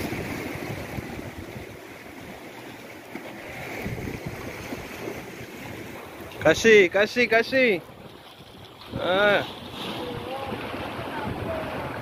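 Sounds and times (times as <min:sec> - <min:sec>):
wind gusts on microphone: 0:00.0 - 0:02.4, 0:03.4 - 0:12.0
sea waves washing: 0:00.0 - 0:12.0.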